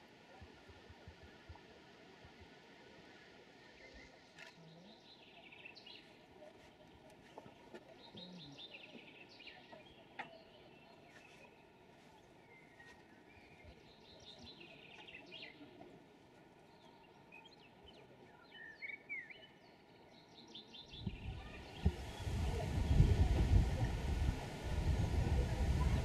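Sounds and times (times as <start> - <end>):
songbirds chirping: 1.1 - 26.0.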